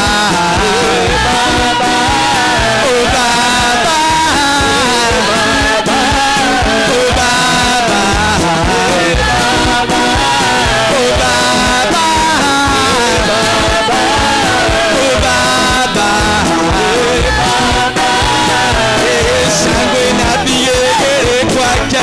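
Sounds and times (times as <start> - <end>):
band with steady beat: 0.0 - 22.0
singers on microphones: 0.0 - 22.0.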